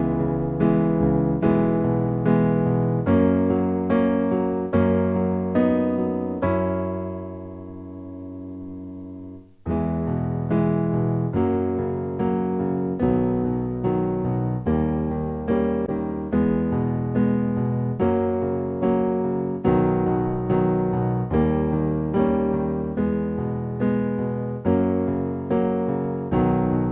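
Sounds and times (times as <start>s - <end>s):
piano chords: 0.0s - 26.9s.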